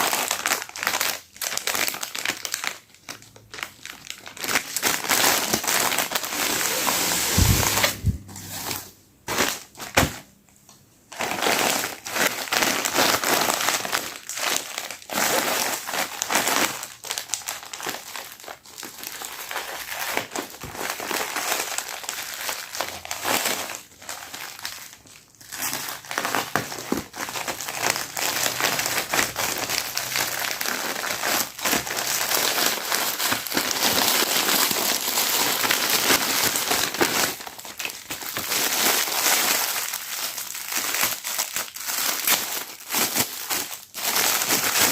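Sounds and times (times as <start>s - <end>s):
packaging crinkling: 0.0s - 10.3s, 11.1s - 44.9s.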